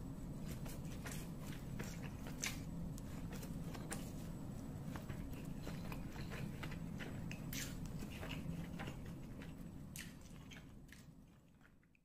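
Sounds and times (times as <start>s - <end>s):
person chewing and slurping noodles: 0.4s - 12.0s.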